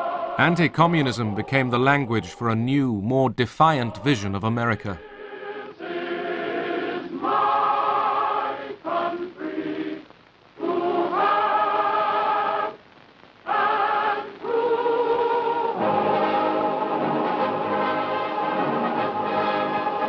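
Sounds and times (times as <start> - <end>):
choir singing held notes: 0.0 - 10.0, 10.6 - 12.8, 13.4 - 20.0.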